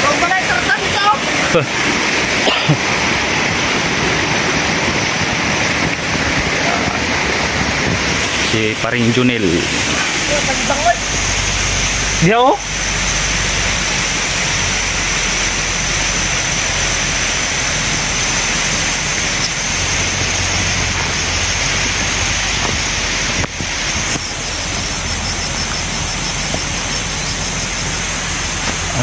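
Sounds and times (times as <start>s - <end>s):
high-pitched hiss: 0.0s - 29.0s
outdoor rushing noise: 0.0s - 29.0s.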